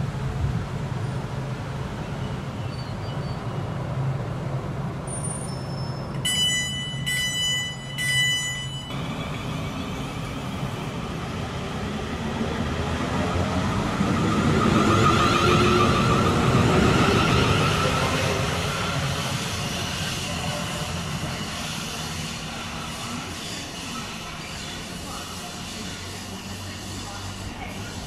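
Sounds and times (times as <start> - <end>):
train low hum: 0.0 - 28.0.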